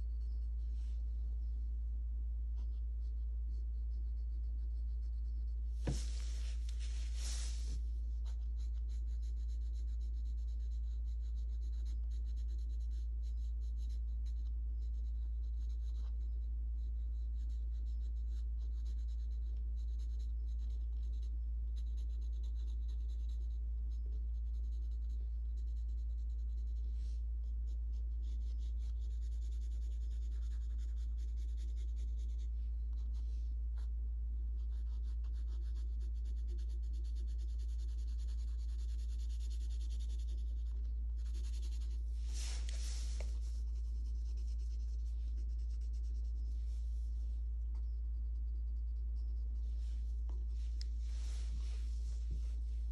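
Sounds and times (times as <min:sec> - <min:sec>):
steady low hum: 0:00.0 - 0:52.9
pencil scratching on paper: 0:02.6 - 0:33.9, 0:34.6 - 0:47.2, 0:47.8 - 0:52.9.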